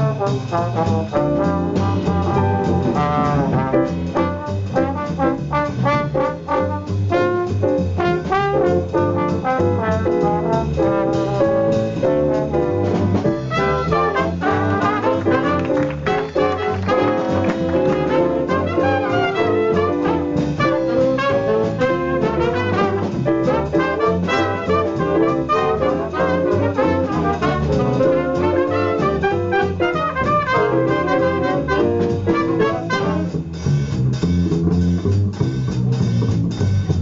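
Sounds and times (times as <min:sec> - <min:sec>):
jazz band playing swing: 0:00.0 - 0:37.0.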